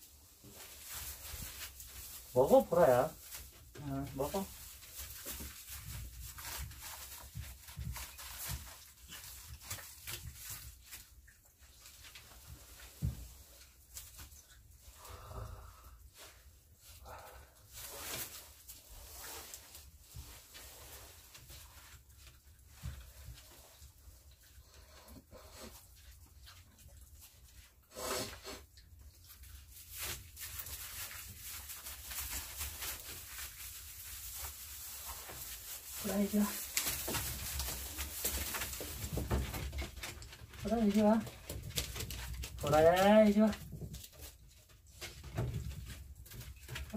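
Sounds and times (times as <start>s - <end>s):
puppies rustling in straw: 0.0s - 15.2s, 16.1s - 46.9s.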